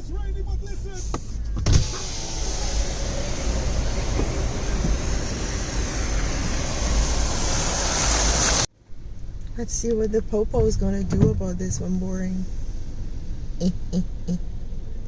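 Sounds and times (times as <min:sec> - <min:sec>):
road noise inside a car: 0:00.0 - 0:15.0.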